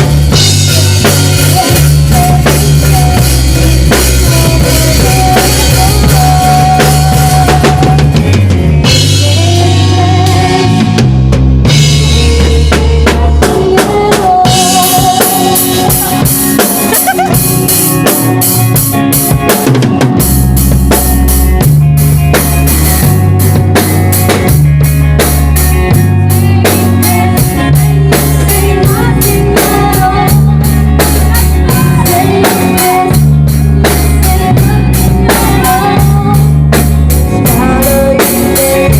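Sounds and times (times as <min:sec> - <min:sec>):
bass guitar: 0:00.0 - 0:38.9
drum kit beat: 0:00.0 - 0:38.9
held melody line: 0:00.0 - 0:38.9.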